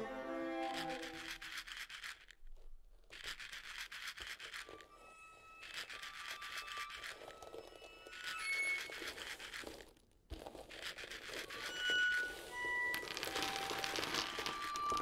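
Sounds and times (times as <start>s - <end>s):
dried beans clicking and rattling: 0.7s - 4.9s, 5.6s - 15.0s.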